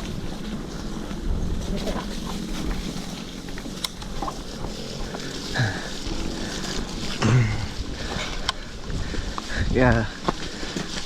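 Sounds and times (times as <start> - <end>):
bike frame rattling and clicking: 0.0 - 11.0
bike tyres rolling on dirt: 0.0 - 11.0.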